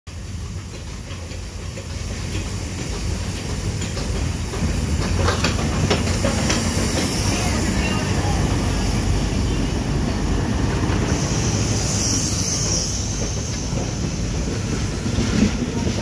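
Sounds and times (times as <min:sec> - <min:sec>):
steam hissing: 0:00.2 - 0:16.0.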